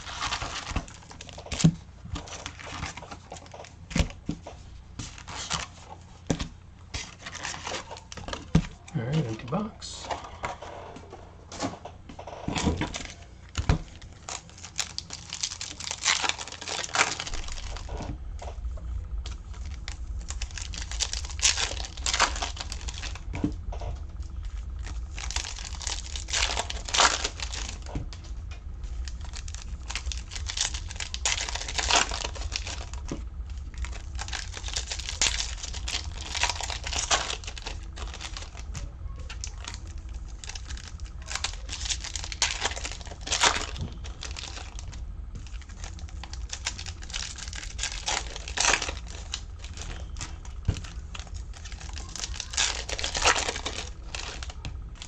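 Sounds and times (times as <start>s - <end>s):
foil wrappers tearing and crinkling: 0.0s - 4.2s, 5.0s - 5.9s, 7.0s - 9.3s, 12.5s - 18.1s, 19.2s - 23.4s, 24.1s - 55.0s
steady low hum: 0.0s - 55.0s.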